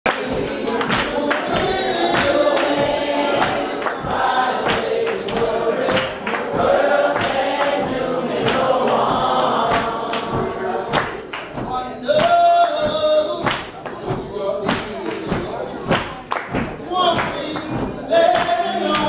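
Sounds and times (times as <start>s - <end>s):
congregation singing gospel song: 0.0s - 19.0s
hand claps: 0.0s - 19.0s.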